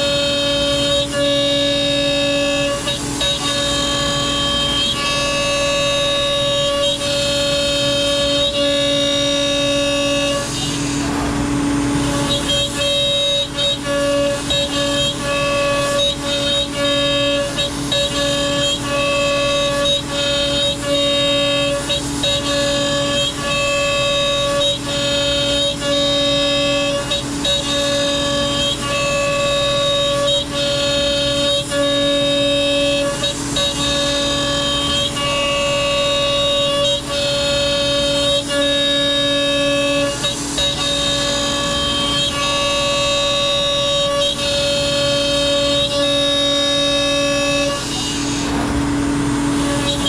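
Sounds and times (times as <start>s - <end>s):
router spindle high-pitched squeal: 0.0s - 50.0s.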